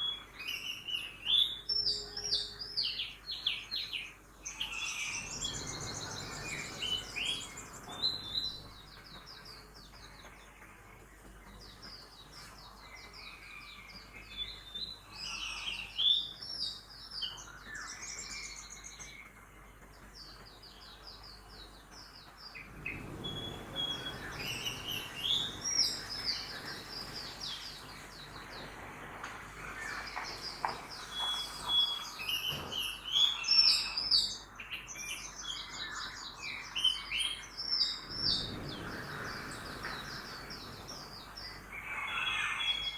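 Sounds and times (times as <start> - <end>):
birds chirping and singing: 0.0 - 42.9.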